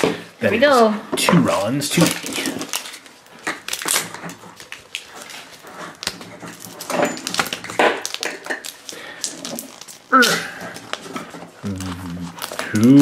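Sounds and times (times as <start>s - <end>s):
plastic capsule clicks and crinkles: 1.9s - 13.0s.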